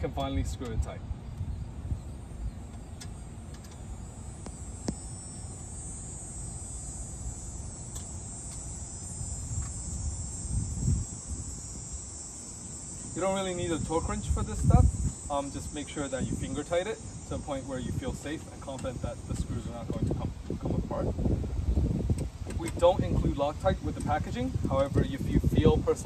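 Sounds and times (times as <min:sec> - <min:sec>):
high-pitched insect chirring: 0:01.2 - 0:26.0.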